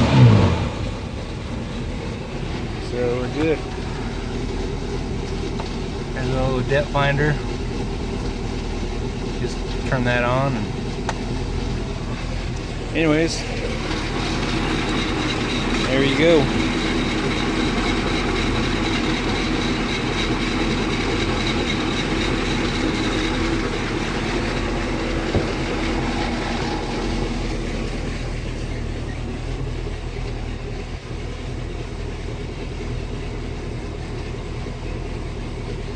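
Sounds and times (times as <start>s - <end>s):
boat engine idling: 0.0s - 35.9s.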